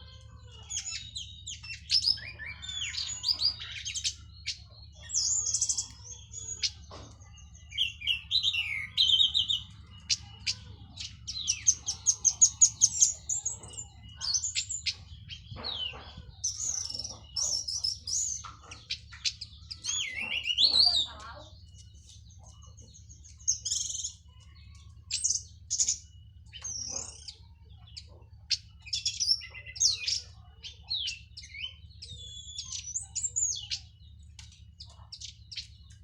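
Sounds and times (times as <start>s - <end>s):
bird singing: 0.0s - 36.0s.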